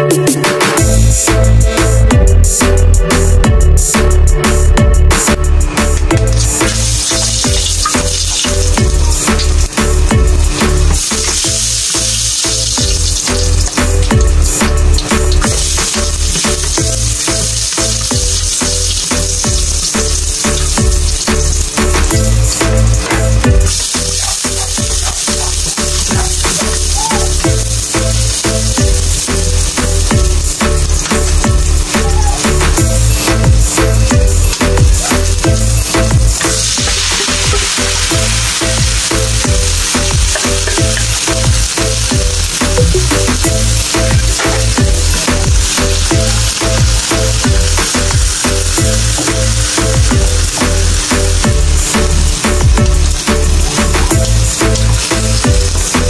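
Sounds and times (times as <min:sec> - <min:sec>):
music with deep bass: 0:00.0 - 0:56.0
food sizzling in hot oil: 0:05.2 - 0:56.0.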